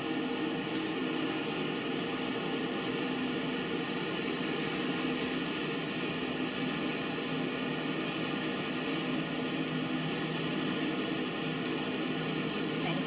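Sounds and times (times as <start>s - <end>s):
harvest machines engine drone: 0.0s - 13.0s.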